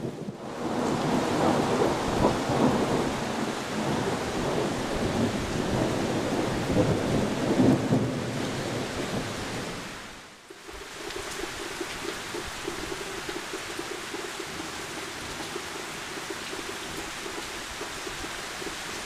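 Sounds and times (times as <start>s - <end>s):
heavy rain on trees and road: 0.0s - 19.0s.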